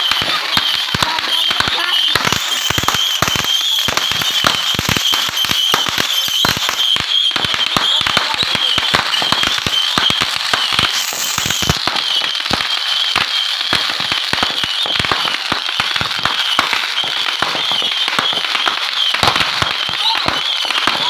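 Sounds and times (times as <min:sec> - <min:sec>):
fireworks popping and cracking: 0:00.0 - 0:21.0.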